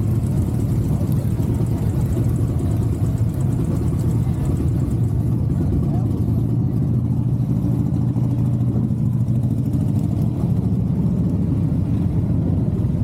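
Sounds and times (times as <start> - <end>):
motorcycle engine idling low: 0.0 - 13.0.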